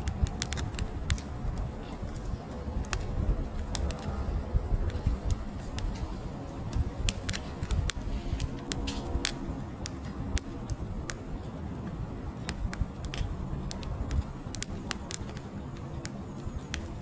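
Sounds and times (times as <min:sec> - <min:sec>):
fire crackling and popping: 0:00.0 - 0:17.0
low fire rumble: 0:00.0 - 0:17.0.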